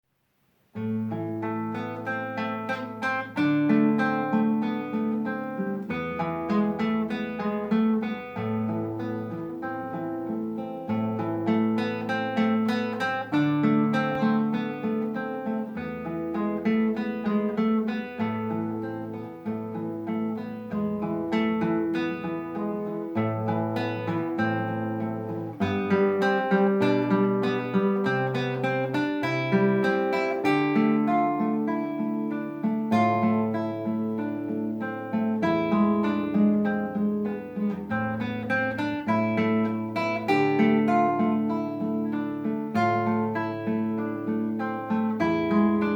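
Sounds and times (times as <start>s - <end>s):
solo classical guitar: 0.0s - 45.9s.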